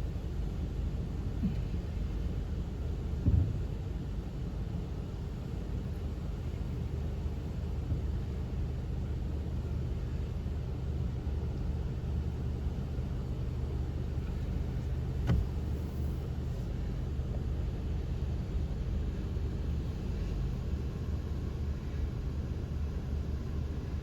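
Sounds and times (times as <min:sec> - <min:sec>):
vehicle idling inside cabin: 0:00.0 - 0:24.0.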